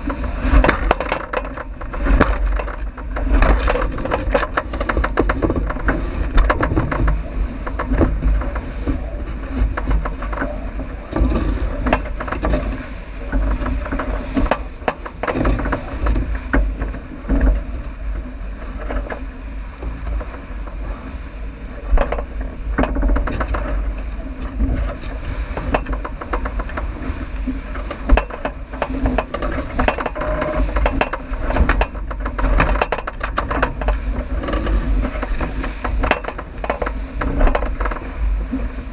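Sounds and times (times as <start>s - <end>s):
boat knocks and clicks: 0.0s - 38.9s
rushing water: 0.0s - 38.9s
wind rumble: 0.0s - 38.9s.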